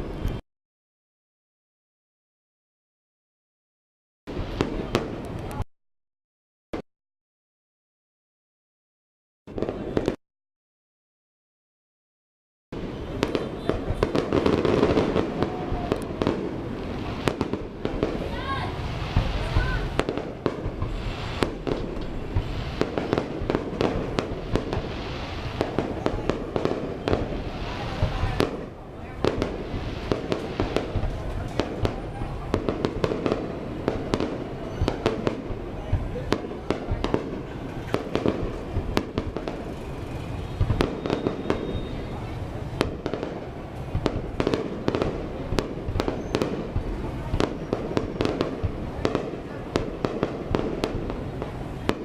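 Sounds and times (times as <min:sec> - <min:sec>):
fireworks bangs and pops: 0:00.0 - 0:00.4, 0:04.3 - 0:05.6, 0:09.5 - 0:10.2, 0:12.8 - 0:52.0.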